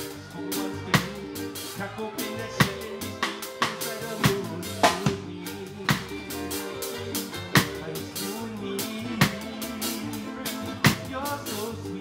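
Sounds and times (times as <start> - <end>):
drum kit beat: 0.0 - 12.0
keyboard: 0.0 - 12.0
ukulele: 0.0 - 12.0.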